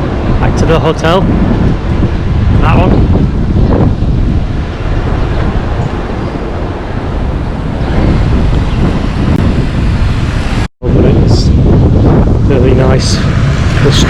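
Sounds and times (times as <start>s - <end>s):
street traffic rumble: 0.0s - 14.0s
wind buffeting microphone: 0.0s - 14.0s.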